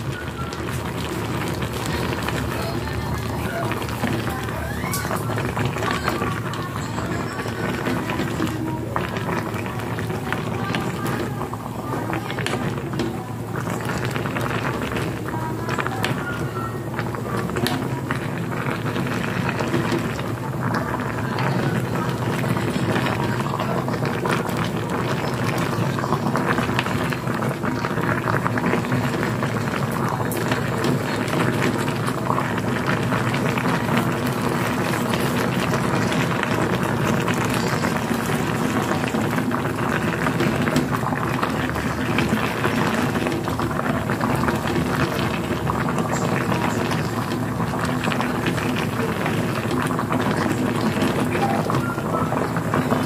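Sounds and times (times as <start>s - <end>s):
fine crackling: 0.0s - 53.0s
pot bubbling: 0.0s - 53.0s.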